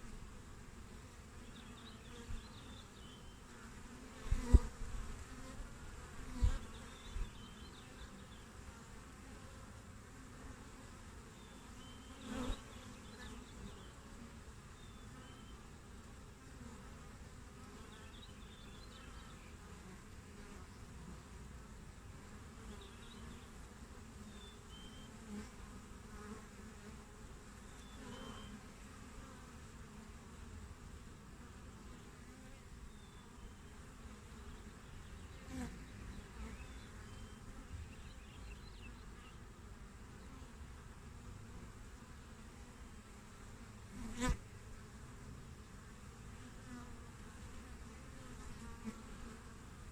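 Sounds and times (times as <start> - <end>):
bees buzzing: 0.0 - 49.9.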